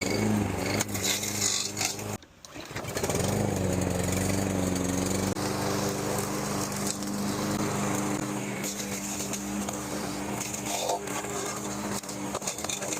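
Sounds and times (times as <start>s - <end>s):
lawn mower engine running: 0.0s - 12.9s.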